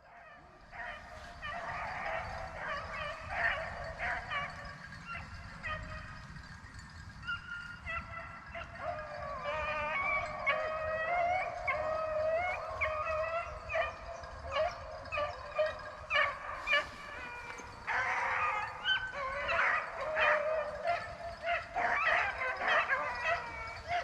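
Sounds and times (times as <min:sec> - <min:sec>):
hounds baying and yelping: 0:00.0 - 0:24.0.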